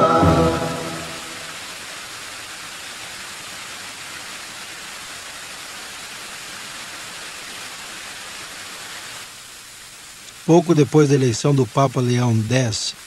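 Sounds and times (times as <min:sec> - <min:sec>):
fountain water splashing: 0:00.6 - 0:13.0.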